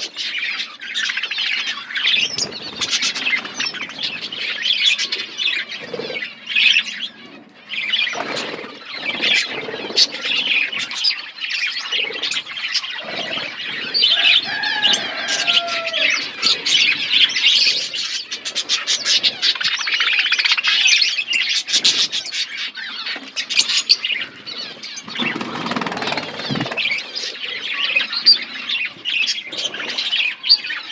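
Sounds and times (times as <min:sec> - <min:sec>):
budgerigars chirping and squawking: 0:00.0 - 0:30.9.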